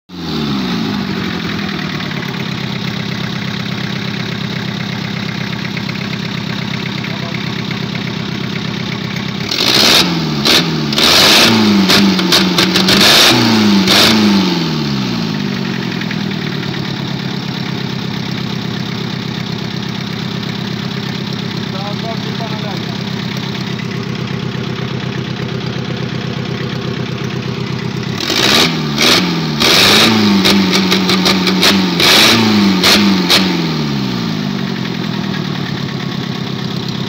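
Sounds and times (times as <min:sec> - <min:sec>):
diesel engine idling and revving: 0:00.1 - 0:37.0.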